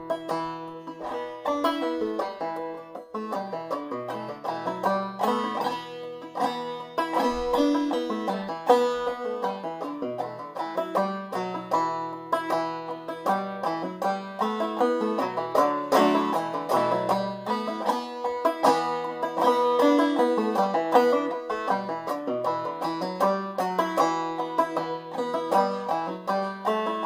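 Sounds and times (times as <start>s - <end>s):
banjo plucked clawhammer style: 0.0s - 27.0s.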